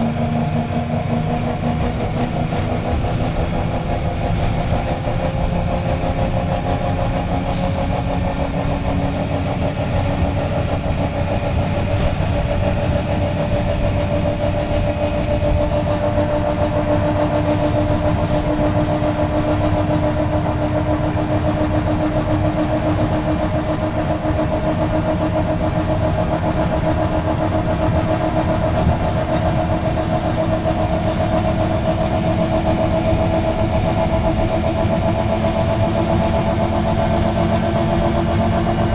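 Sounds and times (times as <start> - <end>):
two-stroke diesel bus engine whining: 0.0 - 38.9.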